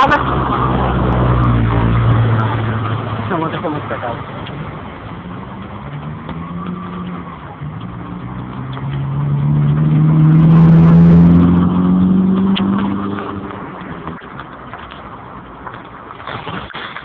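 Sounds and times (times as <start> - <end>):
vehicle engine passing by: 0.0 - 14.2
steady rushing noise: 0.0 - 17.0.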